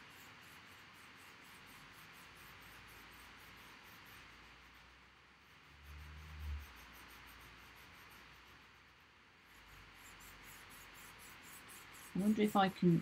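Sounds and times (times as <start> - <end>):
blending stump rubbing on paper: 0.0 - 13.0.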